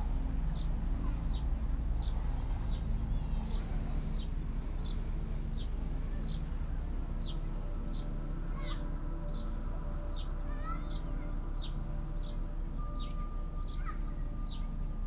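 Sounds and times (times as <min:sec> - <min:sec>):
steady low rumble: 0:00.0 - 0:15.0
bird chirping: 0:00.3 - 0:15.0.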